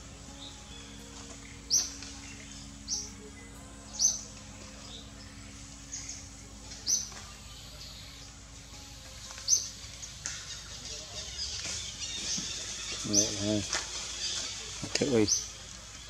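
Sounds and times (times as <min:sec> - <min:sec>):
bird chirping: 0:00.0 - 0:16.0
faint low hum: 0:00.0 - 0:16.0.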